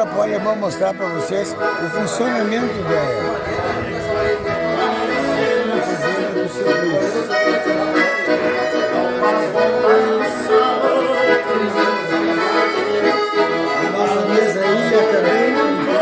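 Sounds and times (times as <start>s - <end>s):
accordion music: 0.0s - 16.0s.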